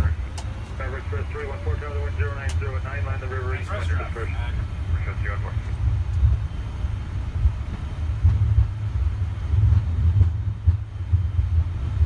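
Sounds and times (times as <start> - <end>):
airplane engines rumbling: 0.0 - 12.0
wheels rolling on runway: 0.0 - 12.0.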